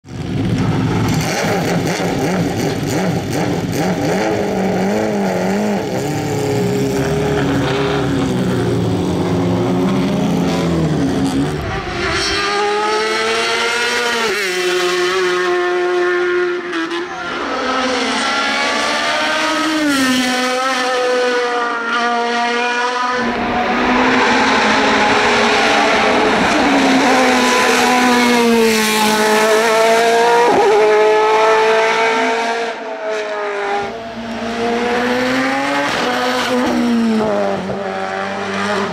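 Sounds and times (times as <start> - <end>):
race car engines rumbling: 0.0 - 38.9
engine accelerating with gear changes: 0.1 - 38.9.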